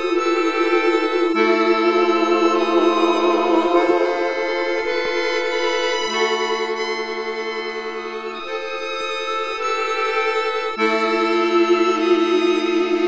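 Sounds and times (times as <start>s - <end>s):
slow instrumental film score: 0.0s - 13.0s.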